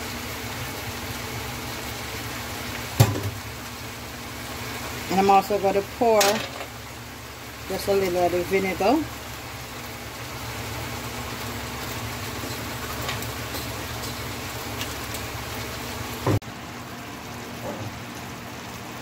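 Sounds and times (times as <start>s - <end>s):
vegetables sizzling in a pot: 0.0s - 19.0s.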